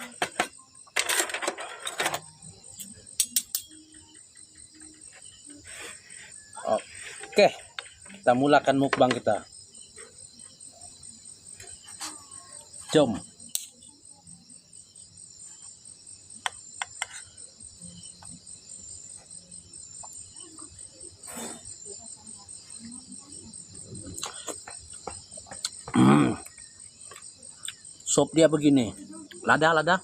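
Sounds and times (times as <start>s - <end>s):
insects chorus pulsing: 0.0s - 30.0s.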